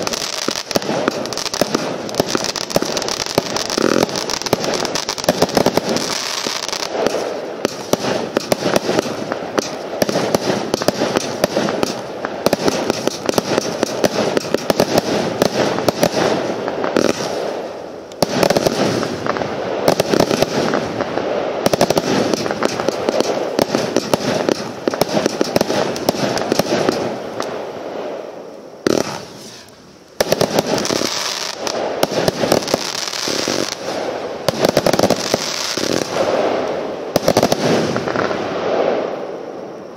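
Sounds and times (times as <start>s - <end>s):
firework cake firing: 0.0s - 39.9s.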